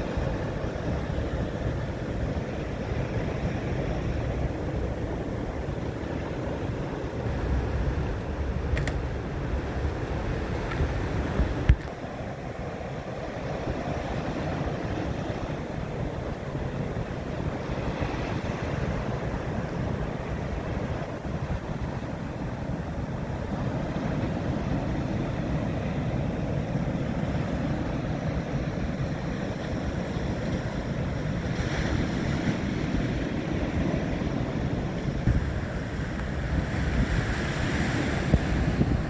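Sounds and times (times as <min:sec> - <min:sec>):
sea waves washing: 0:00.0 - 0:39.0
wind on microphone: 0:00.0 - 0:39.0.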